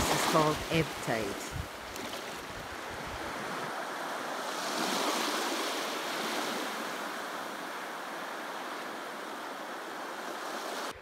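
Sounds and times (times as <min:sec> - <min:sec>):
sea waves washing onto beach: 0:00.0 - 0:11.0.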